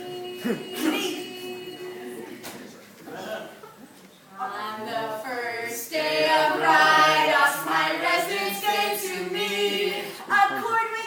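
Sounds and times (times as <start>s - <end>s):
group singing a cappella: 0.0s - 2.8s, 4.3s - 11.0s.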